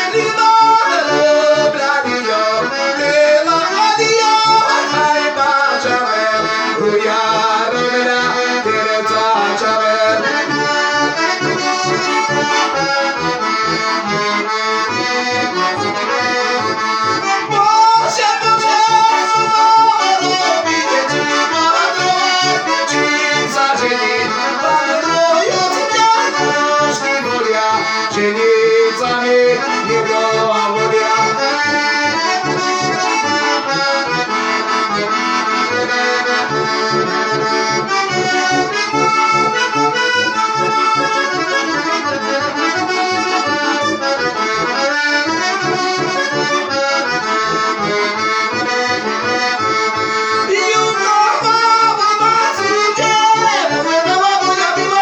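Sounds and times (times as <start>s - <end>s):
button accordion folk tune: 0.0s - 55.0s.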